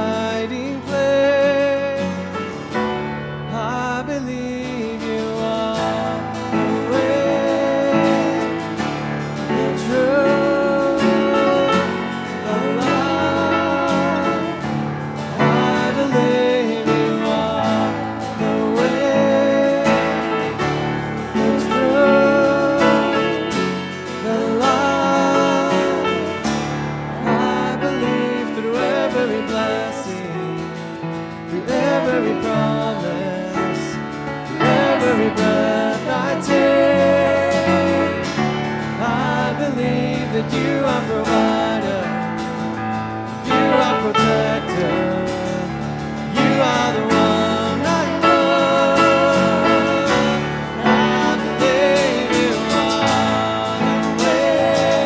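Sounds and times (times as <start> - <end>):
instrumental backing: 0.0 - 55.0
person singing with vibrato: 0.0 - 55.0.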